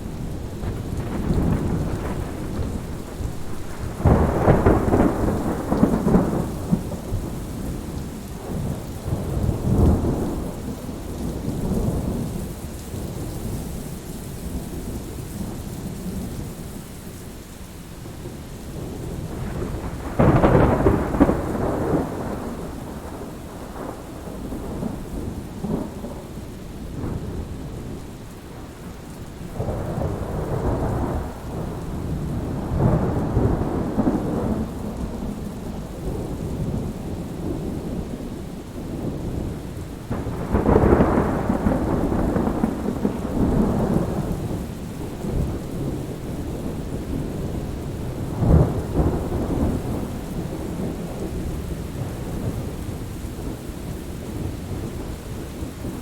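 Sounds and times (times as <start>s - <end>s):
rolling thunder: 0.0s - 13.6s, 18.7s - 56.0s
steady rain: 0.0s - 56.0s.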